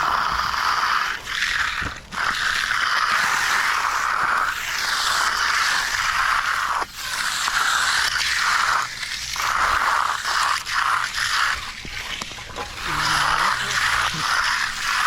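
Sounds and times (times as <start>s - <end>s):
hand tool scraping concrete: 0.0s - 15.0s.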